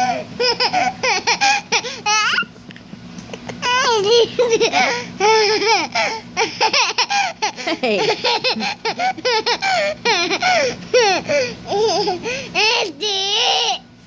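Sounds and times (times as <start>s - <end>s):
toddler giggling: 0.0s - 2.5s, 3.2s - 13.8s.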